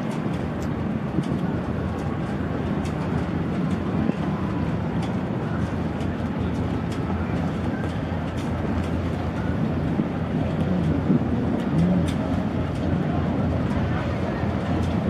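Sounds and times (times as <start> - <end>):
jet ski engine: 0.0 - 15.0
motor boat engines droning: 0.0 - 15.0.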